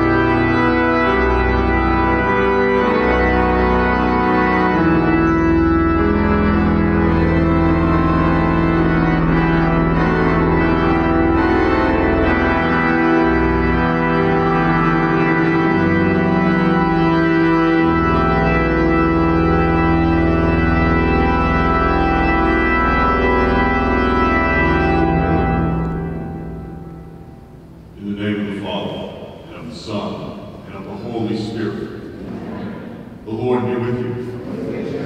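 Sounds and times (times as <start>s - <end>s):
church organ playing held chords: 0.0s - 35.0s.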